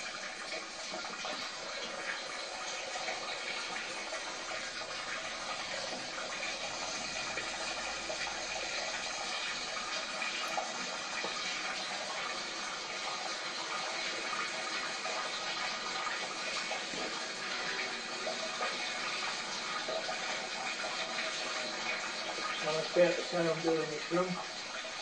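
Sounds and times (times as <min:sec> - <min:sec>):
hose water jet spraying: 0:00.0 - 0:25.0.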